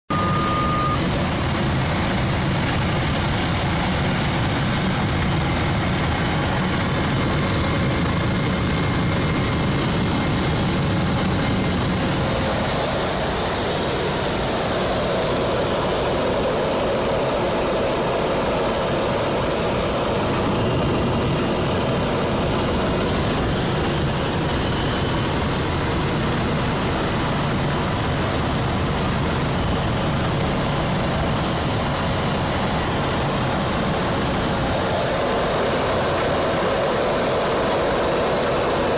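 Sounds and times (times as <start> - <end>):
aircraft engine drone: 0.1 - 38.9
high engine whine: 0.1 - 38.9.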